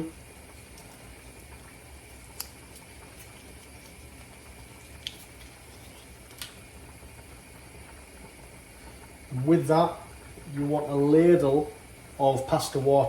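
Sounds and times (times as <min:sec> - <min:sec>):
pots simmering: 0:00.0 - 0:13.0
steady low hum: 0:00.0 - 0:13.0.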